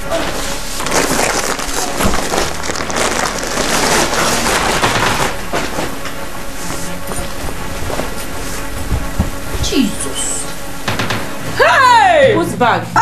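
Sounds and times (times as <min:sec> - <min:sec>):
clothes and bag rustling: 0:00.0 - 0:11.7.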